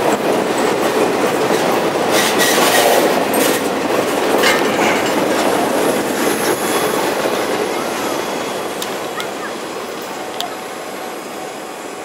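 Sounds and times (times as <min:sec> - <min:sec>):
wheels clacking over rail joints: 0:00.0 - 0:10.8
freight train wheels rumbling: 0:00.0 - 0:12.0.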